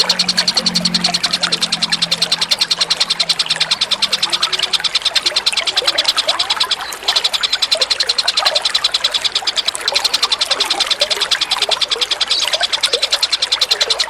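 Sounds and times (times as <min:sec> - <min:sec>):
running water gurgling: 0:00.0 - 0:14.0
songbird chipping trill: 0:00.0 - 0:14.0.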